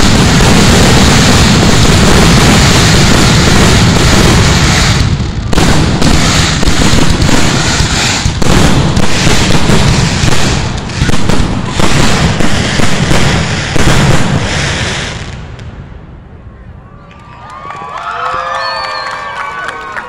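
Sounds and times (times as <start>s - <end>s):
fireworks bursting: 0.0s - 16.1s
fireworks crackling: 0.0s - 16.1s.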